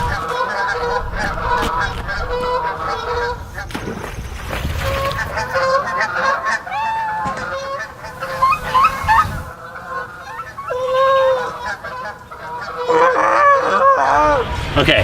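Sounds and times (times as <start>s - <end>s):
birds honking: 0.0s - 15.0s.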